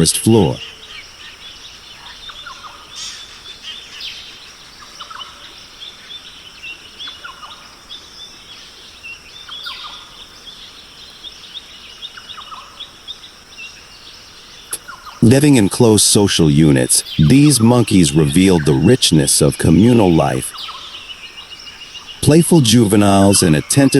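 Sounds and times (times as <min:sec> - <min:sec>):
birds chirping and whistling: 0:00.0 - 0:23.9.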